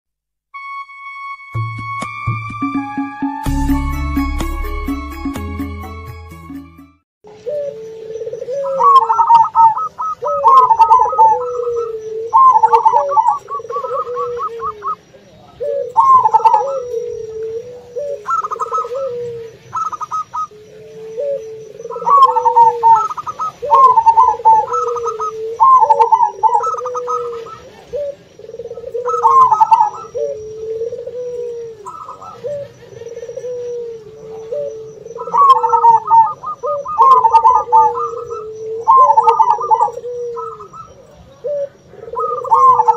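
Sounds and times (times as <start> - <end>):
doves trilled cooing: 7.3 - 42.9
lower dove cooing: 7.3 - 42.9.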